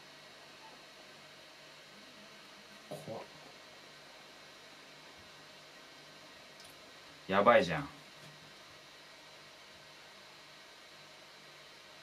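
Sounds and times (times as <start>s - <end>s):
faint hiss: 0.0s - 12.0s
low even hum: 0.0s - 12.0s.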